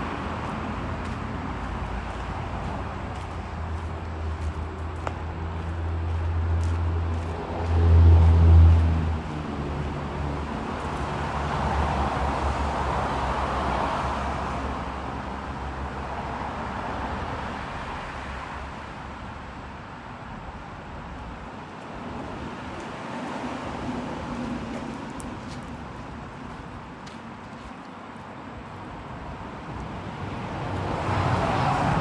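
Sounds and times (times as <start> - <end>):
car engine hum and tyre noise: 0.0 - 32.0.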